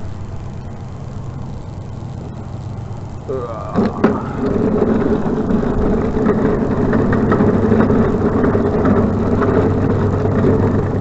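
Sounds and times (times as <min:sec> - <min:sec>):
small rattles and clicks: 0:00.0 - 0:11.0
vehicle engine hum: 0:00.0 - 0:11.0.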